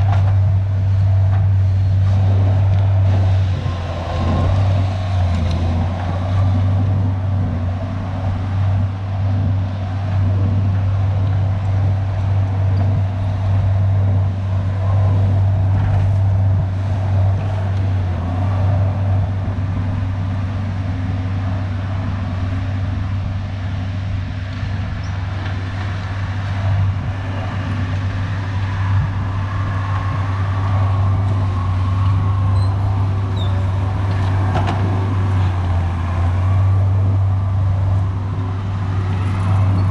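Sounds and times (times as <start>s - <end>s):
diesel engine droning under load: 0.0s - 39.9s.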